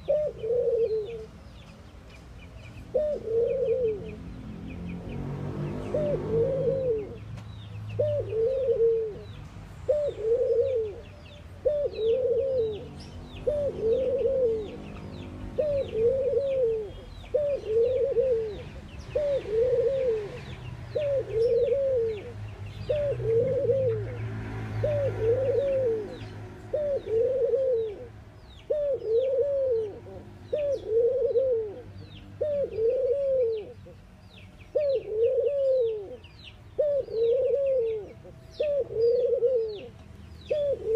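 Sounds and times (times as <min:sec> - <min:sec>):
dove cooing: 0:00.0 - 0:01.4, 0:02.8 - 0:04.3, 0:05.2 - 0:07.3, 0:07.9 - 0:34.0, 0:34.7 - 0:40.9
small birds chirping: 0:00.0 - 0:40.9.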